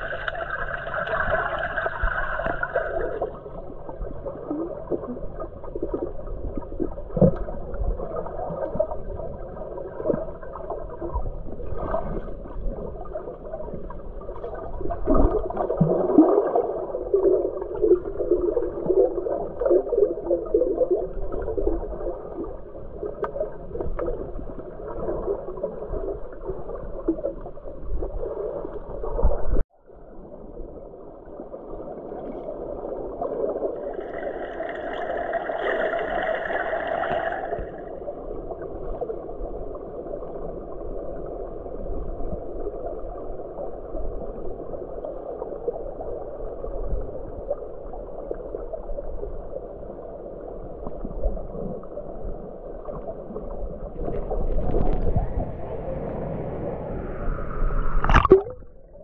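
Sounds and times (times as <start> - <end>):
muffled underwater rush: 0.0 - 59.0.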